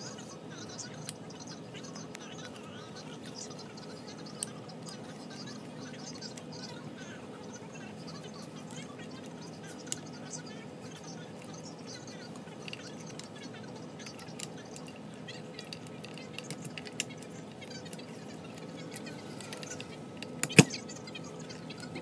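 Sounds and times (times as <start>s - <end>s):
workshop hum: 0.0s - 22.0s.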